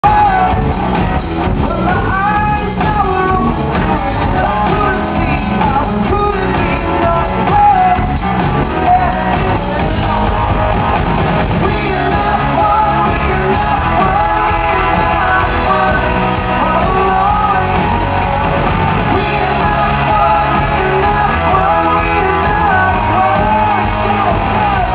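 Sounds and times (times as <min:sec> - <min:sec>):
person singing: 0:00.0 - 0:24.9
rock band playing: 0:00.0 - 0:24.9.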